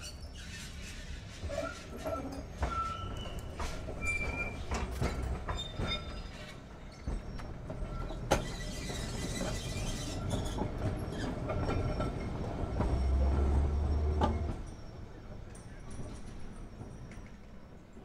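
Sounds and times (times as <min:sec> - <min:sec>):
tram rumbling on track: 0:00.0 - 0:18.0.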